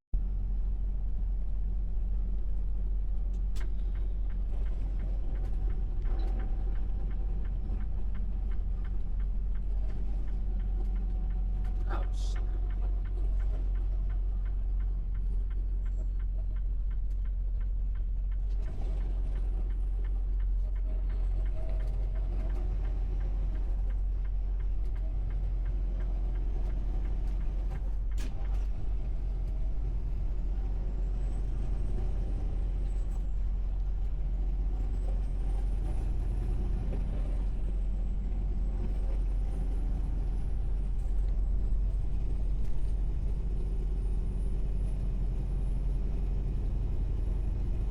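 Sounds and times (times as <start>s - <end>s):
diesel truck engine rumbling: 0.2s - 47.9s.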